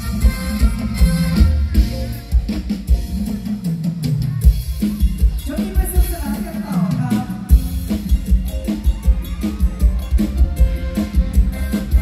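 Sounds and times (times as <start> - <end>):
drum kit steady beat: 0.0 - 12.0.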